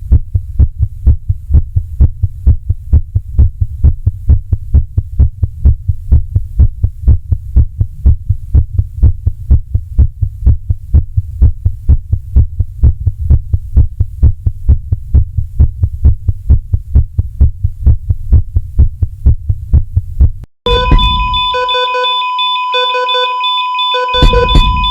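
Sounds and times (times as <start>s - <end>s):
heartbeat thumps: 0.0s - 21.8s, 24.1s - 24.9s.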